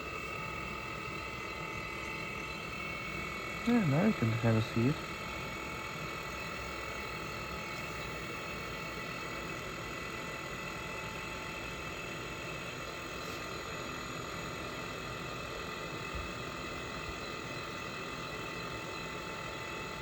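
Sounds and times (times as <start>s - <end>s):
heater fan motor whining: 0.0s - 20.0s.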